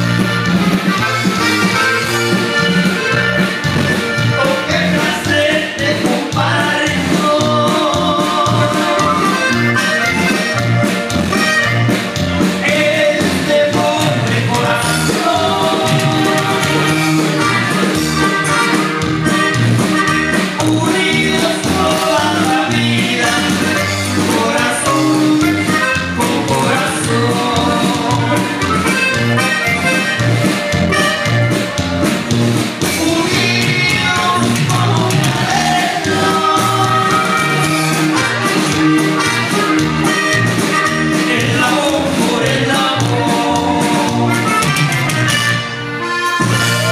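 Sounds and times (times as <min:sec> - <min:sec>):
button accordion melody: 0:00.0 - 0:46.9
electric bass line: 0:00.0 - 0:46.9
guitar strumming: 0:00.0 - 0:46.9.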